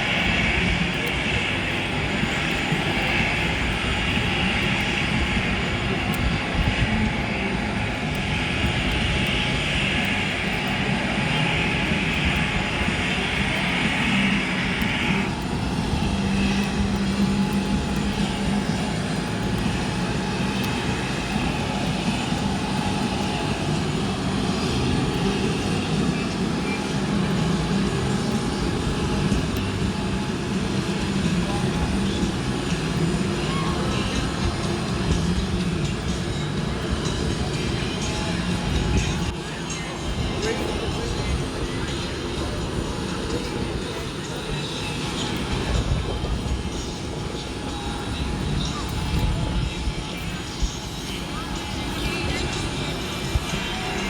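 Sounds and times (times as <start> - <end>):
aircraft high hiss: 0.0 - 54.0
aircraft low hum: 0.0 - 54.0.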